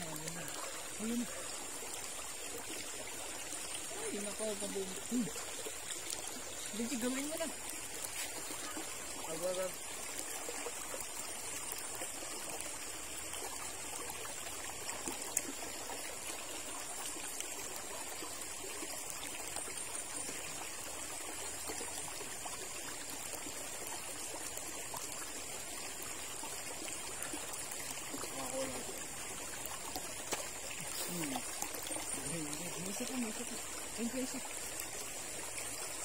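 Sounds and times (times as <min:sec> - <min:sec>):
river water flowing over rocks: 0:00.0 - 0:36.0.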